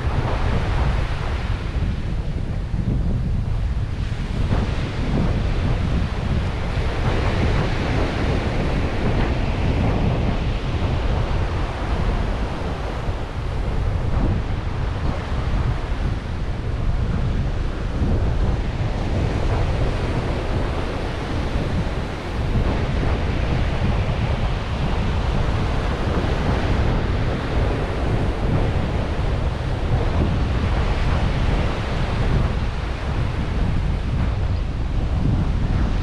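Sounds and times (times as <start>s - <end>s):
ocean surf washing on beach: 0.0s - 36.0s
wind buffeting microphone: 0.0s - 36.0s.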